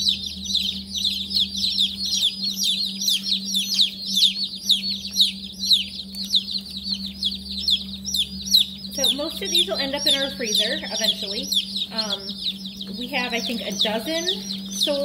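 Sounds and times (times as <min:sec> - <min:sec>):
chicks peeping: 0:00.0 - 0:15.0
low hum: 0:00.0 - 0:15.0.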